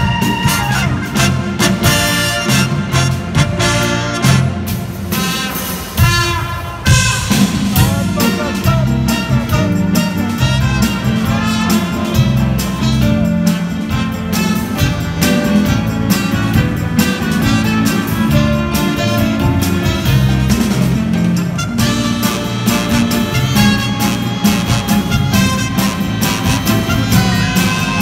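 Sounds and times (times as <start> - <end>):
big band playing jazz: 0.0 - 28.0.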